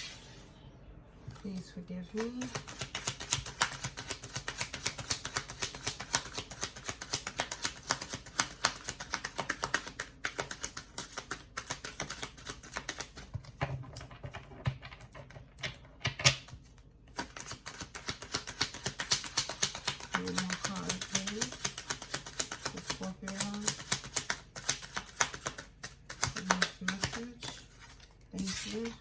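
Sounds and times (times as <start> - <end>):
cards being shuffled: 2.2 - 13.2, 16.5 - 29.0.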